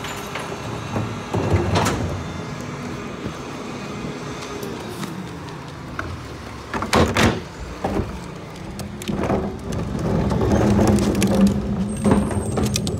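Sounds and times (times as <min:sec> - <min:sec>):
garbage truck engine hum: 0:00.0 - 0:12.9.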